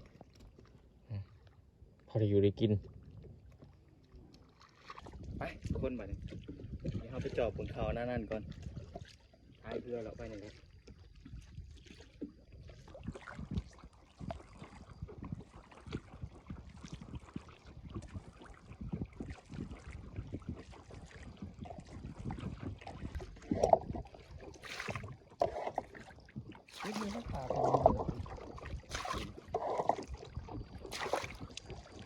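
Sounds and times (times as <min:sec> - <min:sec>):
paddle splashes: 0:00.0 - 0:02.0, 0:02.8 - 0:32.0
water sloshing: 0:00.0 - 0:32.0.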